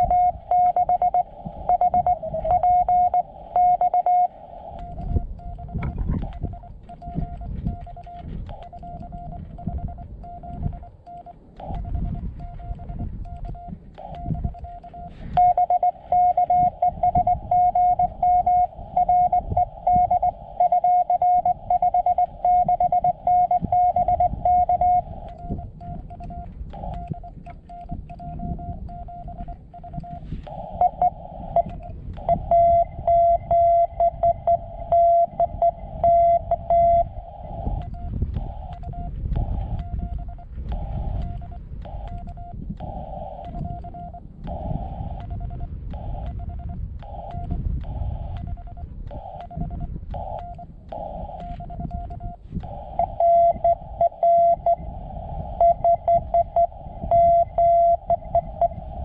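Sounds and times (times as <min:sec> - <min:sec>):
morse code tone: 0:00.0 - 0:59.0.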